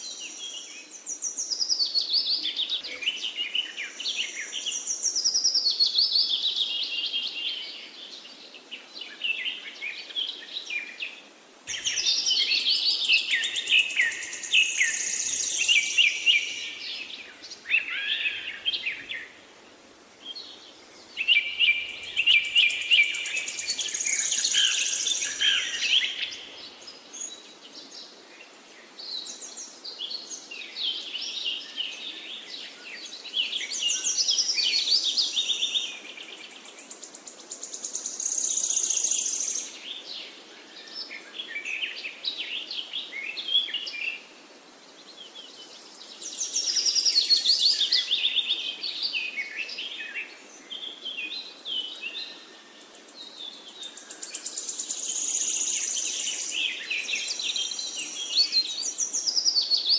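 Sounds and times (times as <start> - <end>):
birds singing and chirping: 0.0 - 19.4, 20.2 - 44.3, 44.9 - 59.9.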